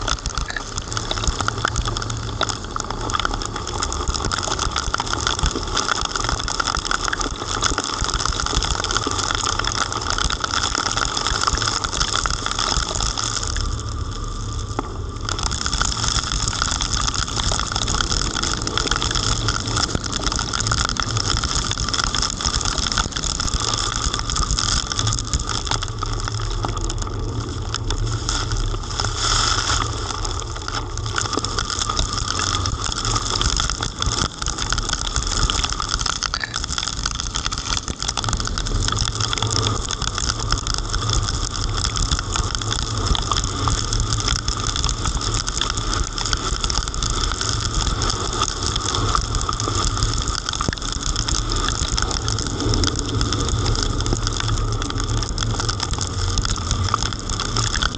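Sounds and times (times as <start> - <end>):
heavy rain and tyre spray: 0.0 - 57.9.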